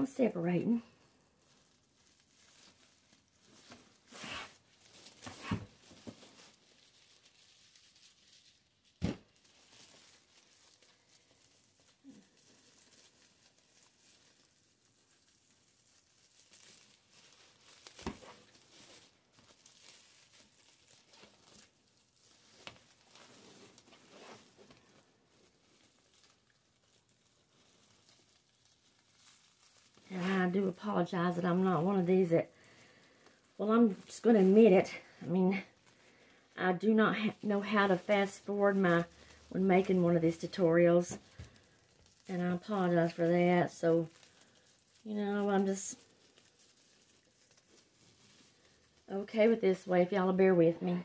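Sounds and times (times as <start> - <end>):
mesh rustling and crinkling: 0.0 - 51.0.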